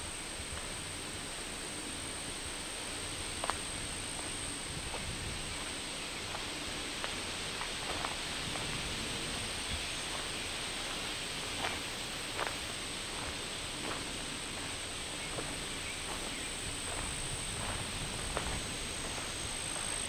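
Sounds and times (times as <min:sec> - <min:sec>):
background hiss: 0:00.0 - 0:20.0
high-pitched insect drone: 0:00.0 - 0:20.0.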